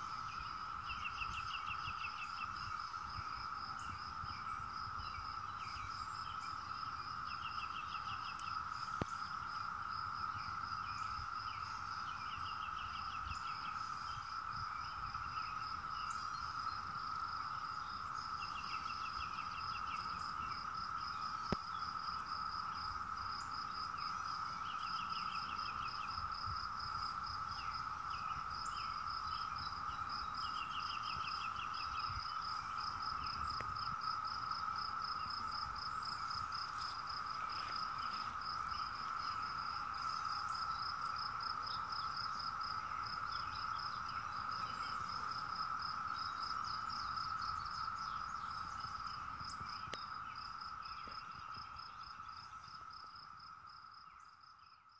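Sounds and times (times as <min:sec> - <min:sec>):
cicadas droning: 0:00.0 - 0:54.9.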